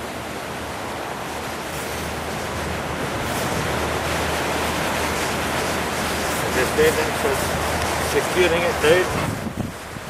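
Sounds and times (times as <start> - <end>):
wind buffeting microphone: 0.7 - 10.0.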